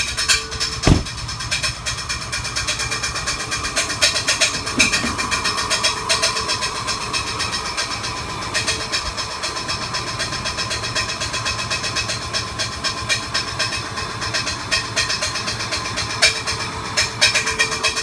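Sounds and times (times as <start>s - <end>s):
car engine idling roughly: 2.0s - 18.0s.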